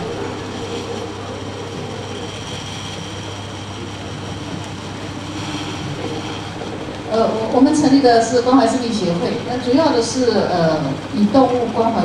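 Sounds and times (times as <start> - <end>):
constant low hum: 0.0 - 12.0
faint steady high tones: 0.0 - 12.0
room hiss: 0.0 - 12.0.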